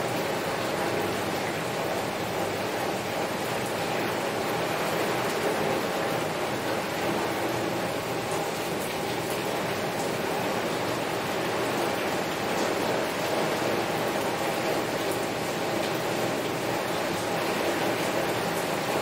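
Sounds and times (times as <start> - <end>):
heavy rain on a window: 0.0 - 19.0.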